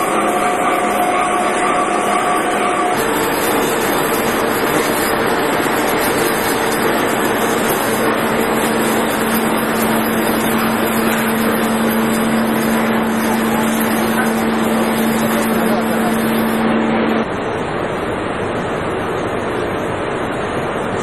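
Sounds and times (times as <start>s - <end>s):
lower machine hum: 0.0s - 21.0s
machinery running with hum: 0.0s - 21.0s.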